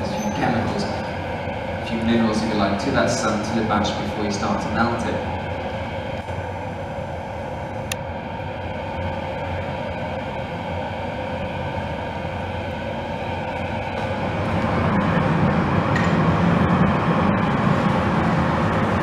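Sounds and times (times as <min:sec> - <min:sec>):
furnace roar: 0:00.0 - 0:19.0.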